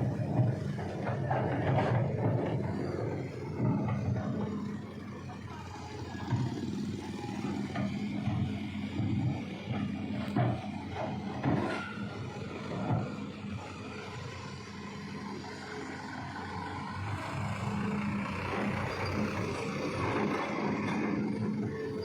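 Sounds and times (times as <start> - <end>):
traffic engines humming: 0.0 - 22.0.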